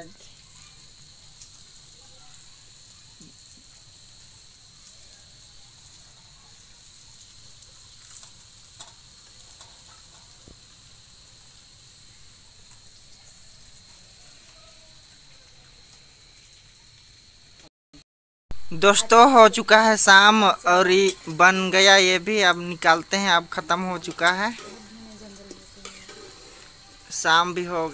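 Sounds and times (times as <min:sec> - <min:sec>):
food deep-frying in hot oil: 0:00.0 - 0:17.7, 0:18.5 - 0:27.9.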